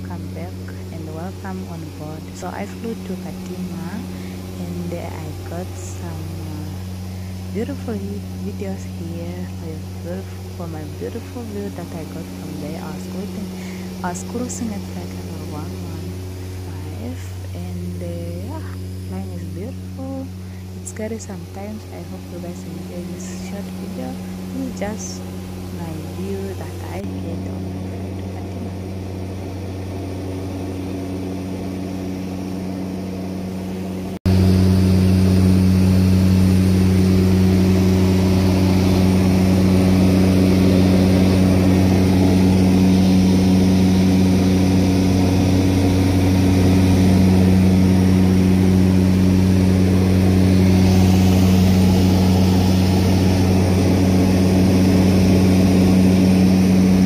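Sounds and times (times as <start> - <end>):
propeller aircraft cabin drone: 0.0 - 57.0.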